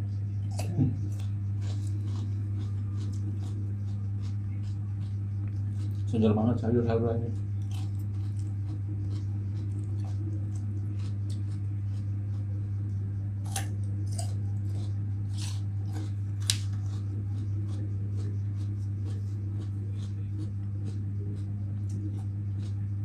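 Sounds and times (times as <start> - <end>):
steady low hum: 0.0 - 23.0
crunching bites and chewing: 0.4 - 6.4, 7.3 - 23.0.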